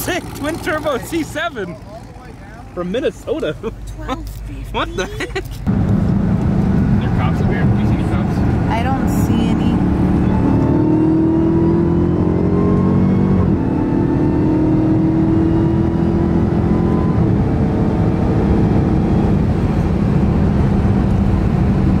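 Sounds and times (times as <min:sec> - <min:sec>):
car engine accelerating: 0:00.0 - 0:22.0
road and tyre noise: 0:00.0 - 0:22.0.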